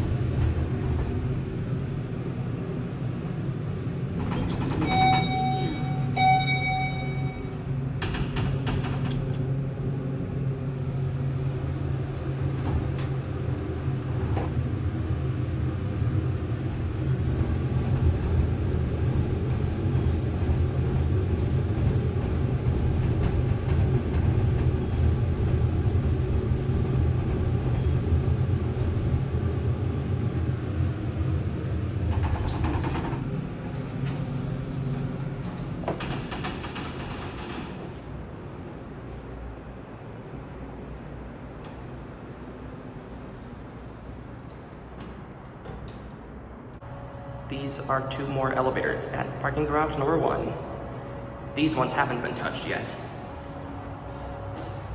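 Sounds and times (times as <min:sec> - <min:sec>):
elevator doors clunking: 0:00.0 - 0:02.2, 0:03.7 - 0:39.2, 0:41.6 - 0:46.8, 0:47.6 - 0:54.9
elevator hum and rumble: 0:00.0 - 0:54.9.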